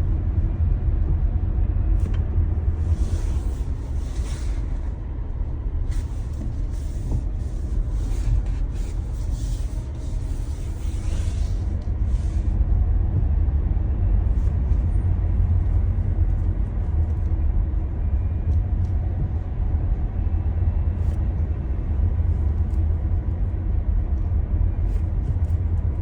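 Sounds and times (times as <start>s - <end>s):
road and tyre rumble: 0.0s - 26.0s.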